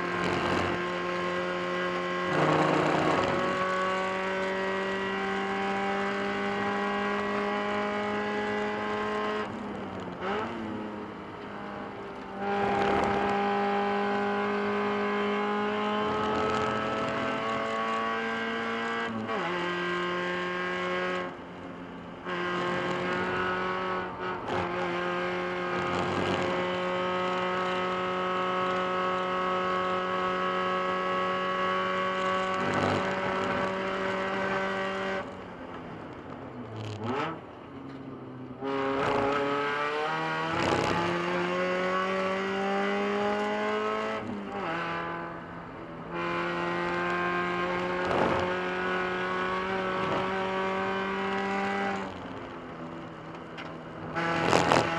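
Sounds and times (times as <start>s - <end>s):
race car engine at full throttle: 0.0s - 54.9s.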